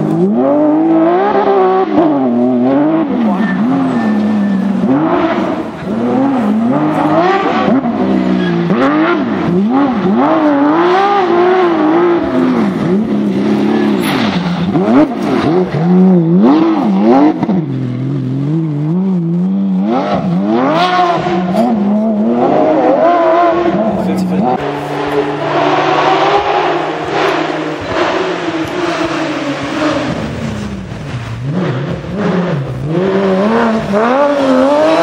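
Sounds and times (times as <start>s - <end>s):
car engine revving hard: 0.0s - 35.0s.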